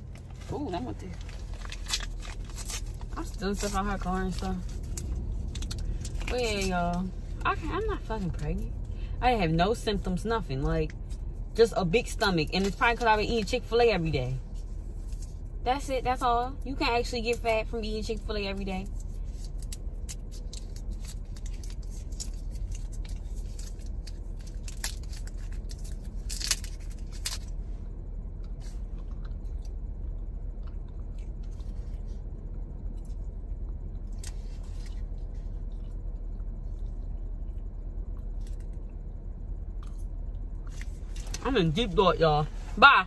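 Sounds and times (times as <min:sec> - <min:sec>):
low hum inside car cabin: 0:00.0 - 0:43.0.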